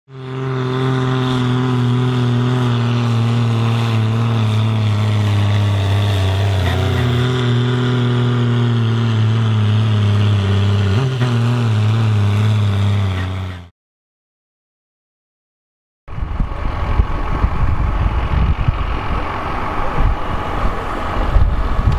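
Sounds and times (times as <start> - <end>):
tractor diesel engine droning: 0.1 - 13.7, 16.1 - 21.9.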